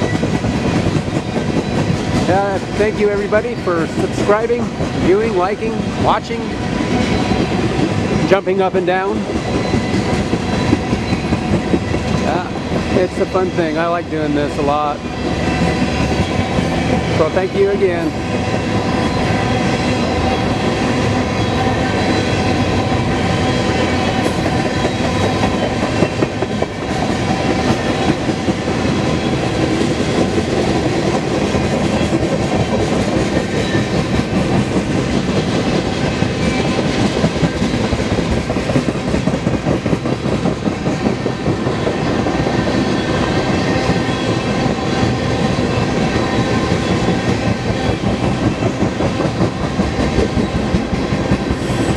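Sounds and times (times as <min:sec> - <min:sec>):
train wheels clattering: 0:00.0 - 0:51.9.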